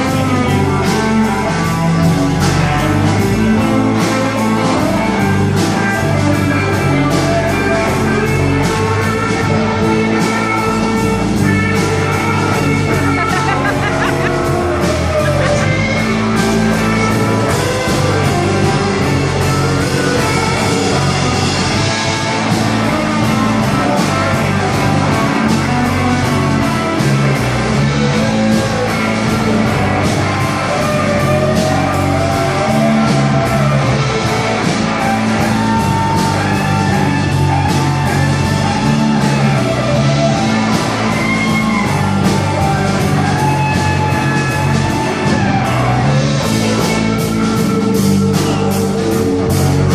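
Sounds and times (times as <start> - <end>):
electric guitar: 0.0 - 49.9
live band playing blues-rock: 0.0 - 49.9.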